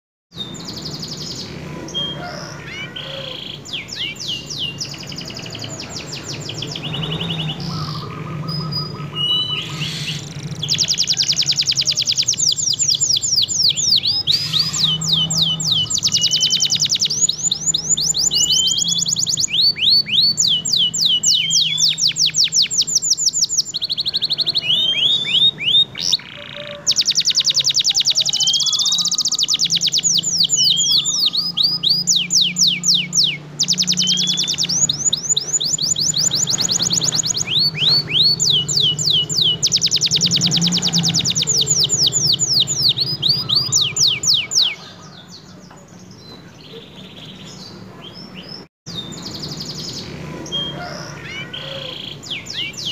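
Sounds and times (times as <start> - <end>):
canary singing: 0.3 - 52.9.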